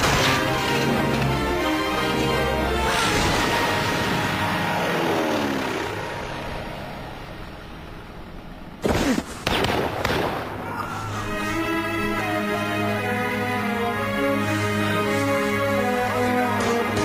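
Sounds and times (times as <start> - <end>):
music with long held notes: 0.0 - 8.1, 11.1 - 17.0.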